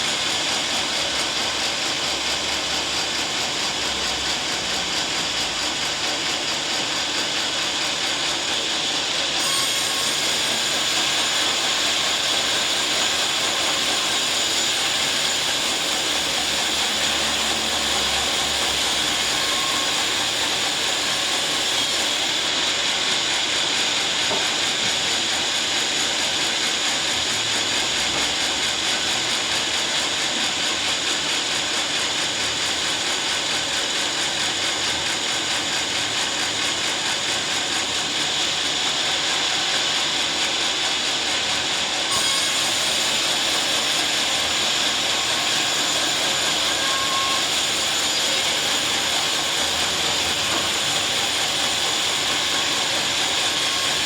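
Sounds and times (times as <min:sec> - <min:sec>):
saw blade cutting log: 0:00.0 - 0:54.0.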